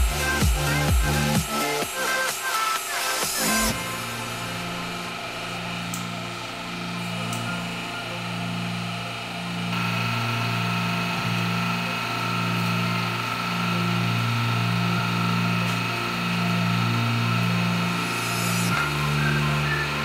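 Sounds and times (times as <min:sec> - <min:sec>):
hydraulic press humming: 0:00.0 - 0:20.0.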